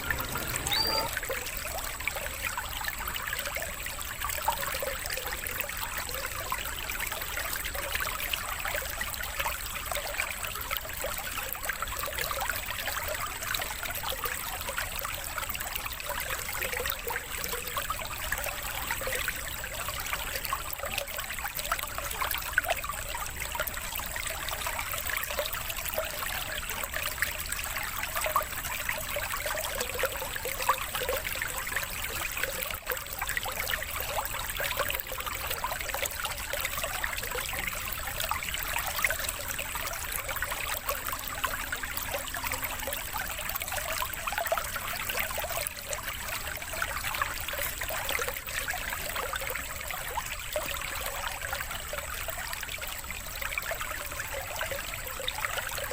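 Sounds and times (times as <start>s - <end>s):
water trickling: 0.0s - 55.9s.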